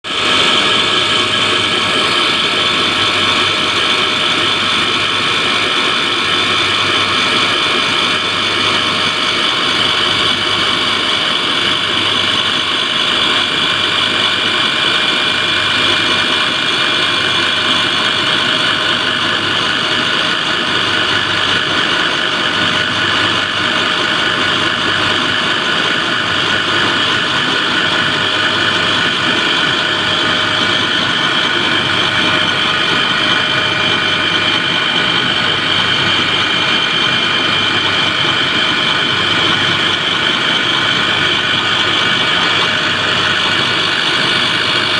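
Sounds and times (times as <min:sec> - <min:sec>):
air compressor mechanical drone: 0:00.0 - 0:44.9
high-pitched whine: 0:00.1 - 0:44.9.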